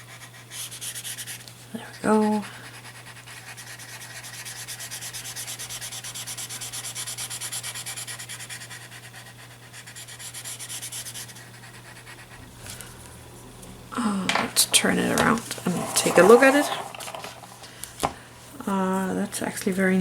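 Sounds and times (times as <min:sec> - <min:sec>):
tortillon rubbing on paper: 0:00.0 - 0:01.4, 0:02.2 - 0:17.8.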